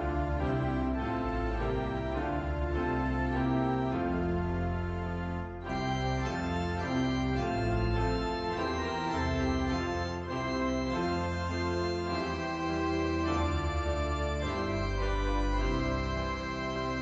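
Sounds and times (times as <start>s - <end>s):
organ playing hymn chords: 0.0s - 17.0s.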